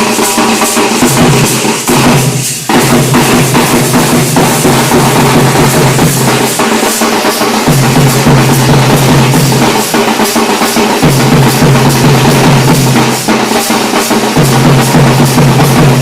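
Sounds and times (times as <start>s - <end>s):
dhol drums playing fast rhythm: 0.0s - 16.0s.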